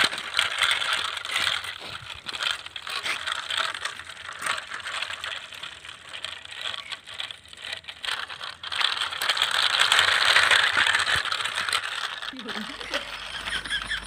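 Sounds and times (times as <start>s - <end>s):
plastic toy trucks rattling: 0.0s - 14.0s.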